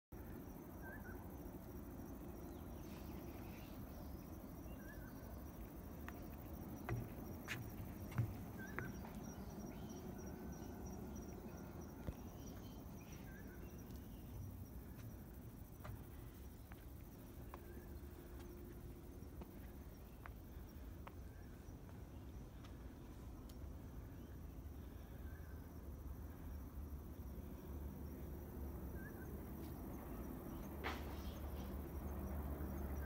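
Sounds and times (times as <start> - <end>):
insects trilling: 0.2 - 33.0.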